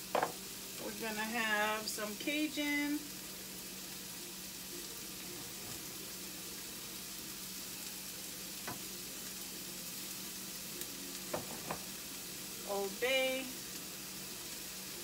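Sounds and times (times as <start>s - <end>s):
onions sizzling in a skillet: 0.0s - 15.0s.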